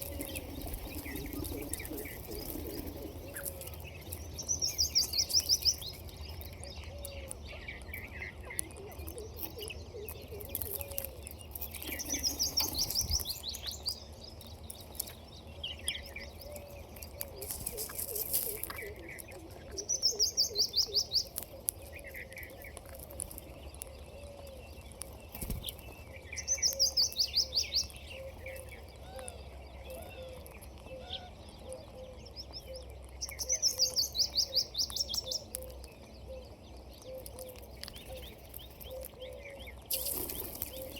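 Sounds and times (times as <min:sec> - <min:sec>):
soft bird chirps: 0:00.0 - 0:40.9.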